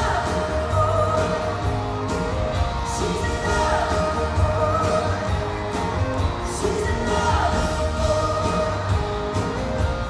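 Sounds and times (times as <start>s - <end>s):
person singing: 0.0s - 9.6s
live country band: 0.0s - 10.0s.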